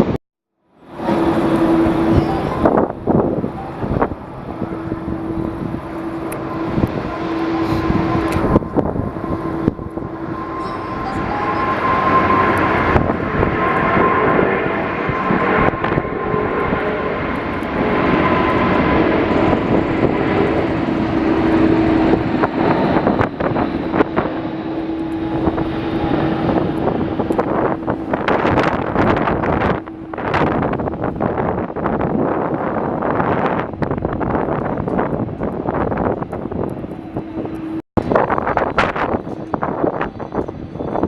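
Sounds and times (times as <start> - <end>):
jet engines roaring: 0.0 - 41.0
wind buffeting microphone: 0.8 - 41.0.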